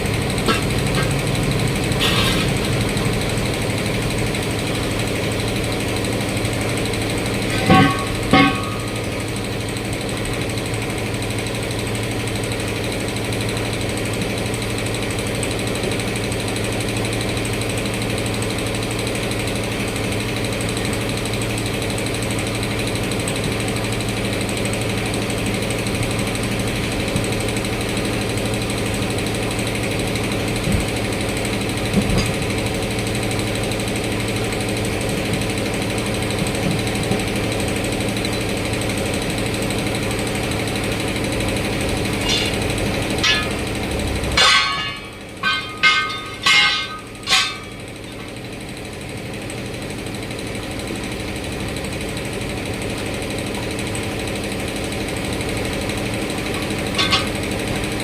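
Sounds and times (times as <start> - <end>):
machine droning: 0.0 - 15.7, 22.1 - 58.0.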